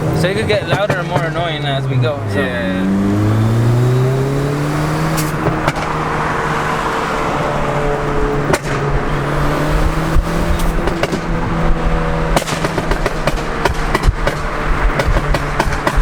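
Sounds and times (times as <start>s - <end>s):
sharp exhaust pops: 0.0s - 2.2s, 2.8s - 7.3s, 8.0s - 16.0s
car engine droning through exhaust: 0.0s - 16.0s
road noise: 0.0s - 16.0s.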